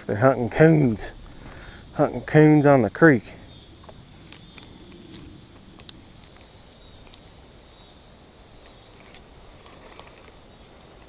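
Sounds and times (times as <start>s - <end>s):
insects calling: 0.0s - 11.0s.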